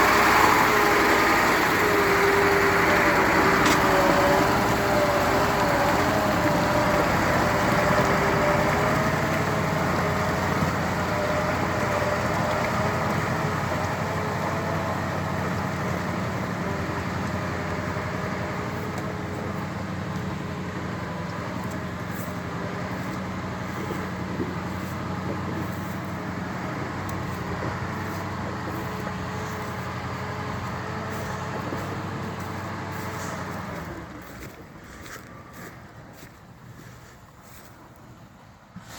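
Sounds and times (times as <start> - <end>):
heavy vehicle engine under load: 0.0 - 38.9.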